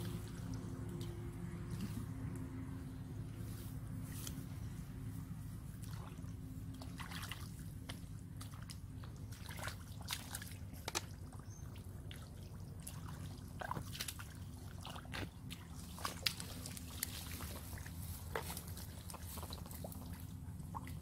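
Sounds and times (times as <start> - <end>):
splashing in muddy water: 0.0 - 2.7, 5.7 - 21.0
steady low rumble: 0.0 - 21.0.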